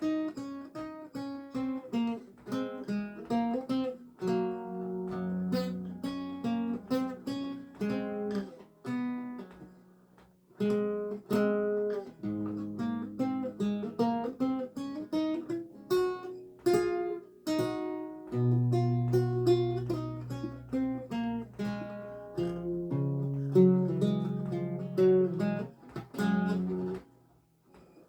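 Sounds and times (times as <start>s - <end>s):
plucked lute notes and chords: 0.0s - 27.9s.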